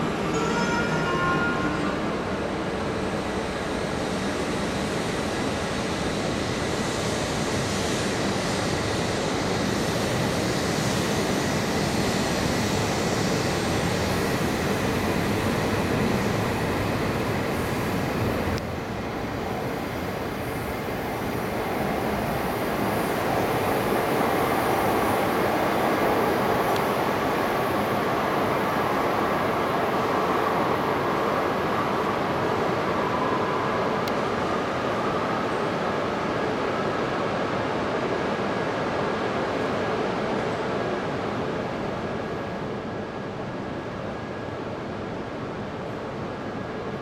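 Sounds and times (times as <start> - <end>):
train rumbling and rushing: 0.0 - 47.0.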